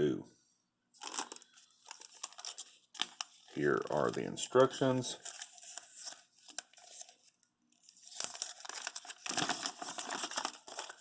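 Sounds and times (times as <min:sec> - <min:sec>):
plastic bag crinkling: 0:01.0 - 0:11.0.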